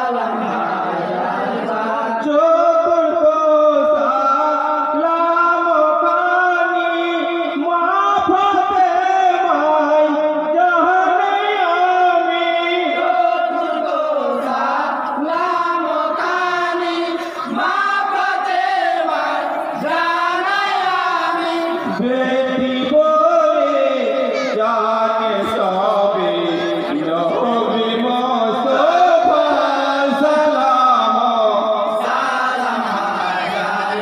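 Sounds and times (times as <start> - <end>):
men singing in chorus: 0.0 - 34.0.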